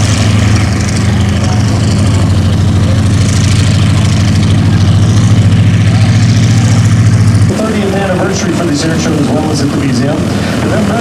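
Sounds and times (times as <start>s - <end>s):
aircraft engine low drone: 0.0s - 11.0s.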